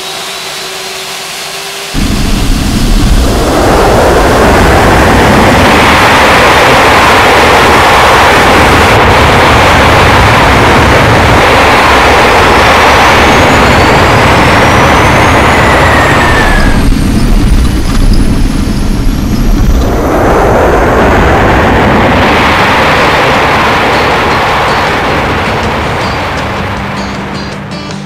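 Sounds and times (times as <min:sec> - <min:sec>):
jet engines roaring: 0:00.0 - 0:27.9
turbine whine: 0:00.0 - 0:28.0.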